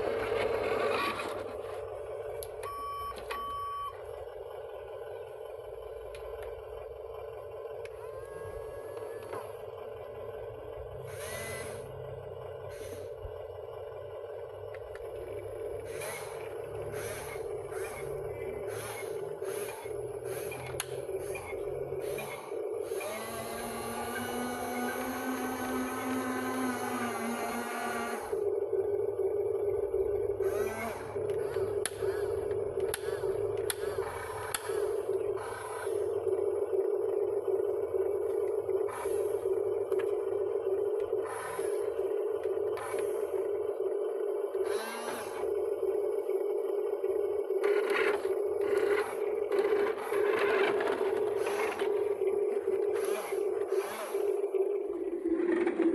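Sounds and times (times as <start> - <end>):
excavator running: 0.0 - 55.9
machine whine: 0.0 - 55.9.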